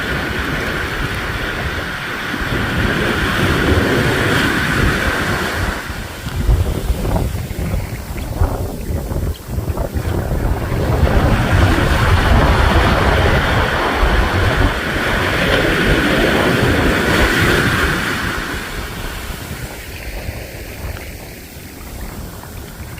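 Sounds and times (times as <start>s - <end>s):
ocean surf: 0.0s - 22.9s
wind buffeting microphone: 0.0s - 22.9s.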